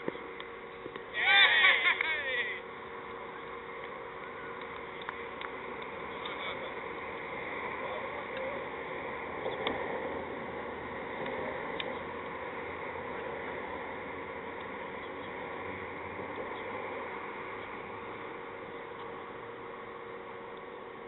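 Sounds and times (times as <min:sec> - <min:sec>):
distant voices: 0:00.0 - 0:21.0
open-air background noise: 0:00.0 - 0:21.0.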